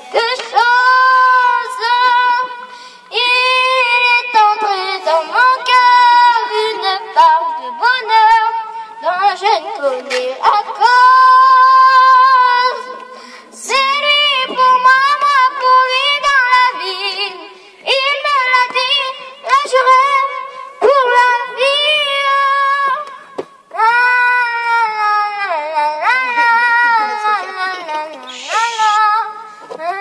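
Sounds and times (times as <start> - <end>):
girl singing into a microphone: 0.0 - 30.0.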